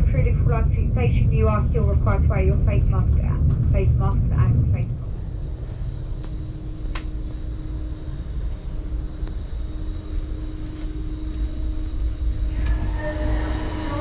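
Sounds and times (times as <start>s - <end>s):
steady hum: 0.0s - 14.0s
train interior rumble: 0.0s - 14.0s.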